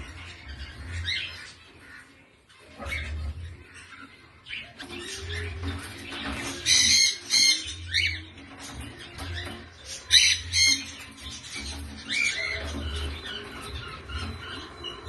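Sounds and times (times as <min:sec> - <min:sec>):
cockatiels squawking: 0:00.0 - 0:15.0.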